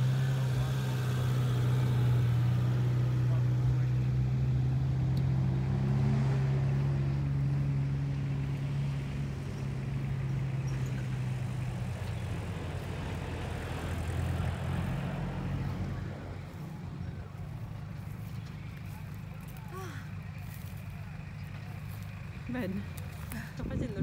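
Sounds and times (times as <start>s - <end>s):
off-road vehicle engines: 0.0s - 24.0s.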